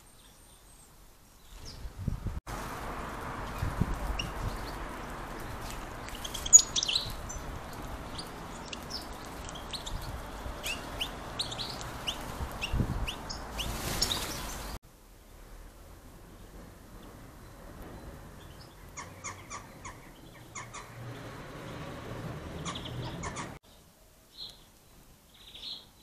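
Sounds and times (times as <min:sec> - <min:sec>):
small songbirds chirping: 0:00.0 - 0:02.1, 0:03.0 - 0:15.5, 0:16.3 - 0:21.8, 0:22.4 - 0:26.0
steady outdoor hiss: 0:00.0 - 0:26.0.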